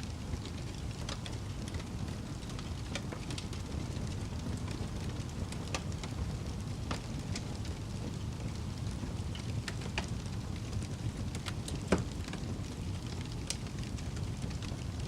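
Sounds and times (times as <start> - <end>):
fire crackling: 0.0 - 15.0.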